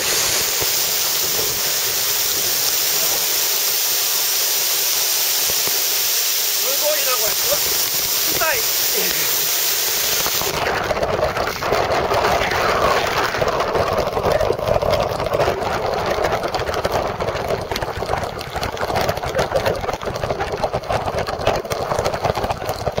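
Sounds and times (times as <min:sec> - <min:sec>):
waterfall rushing onto microphone: 0:00.0 - 0:22.1.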